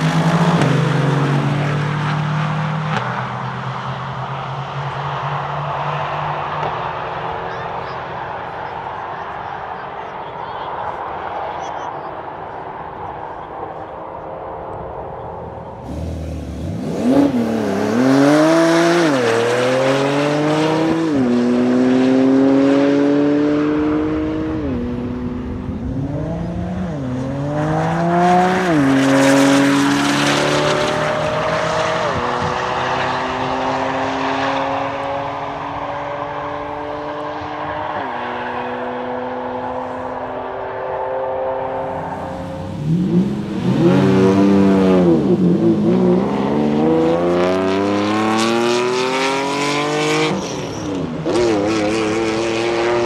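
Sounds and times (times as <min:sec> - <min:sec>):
car engines accelerating hard: 0:00.0 - 0:53.0.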